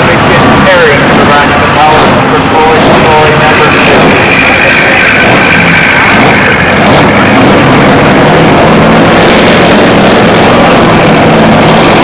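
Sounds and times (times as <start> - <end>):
truck engine running loud: 0.0 - 12.0.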